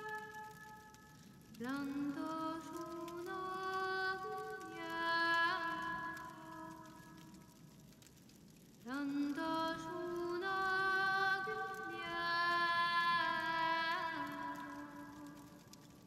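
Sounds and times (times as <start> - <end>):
woman singing long notes: 0.0 - 0.9, 1.6 - 7.2, 8.9 - 15.6.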